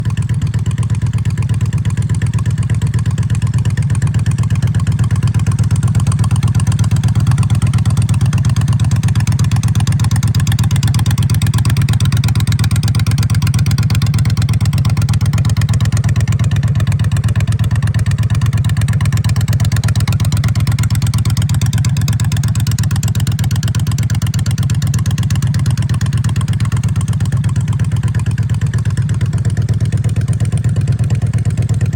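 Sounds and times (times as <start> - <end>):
motorcycle engine running steadily: 0.0 - 31.9.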